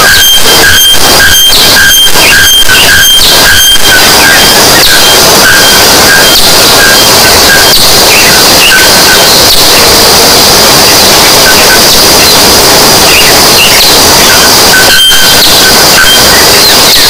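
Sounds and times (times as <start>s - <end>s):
clipping distortion and hiss: 0.0s - 17.0s.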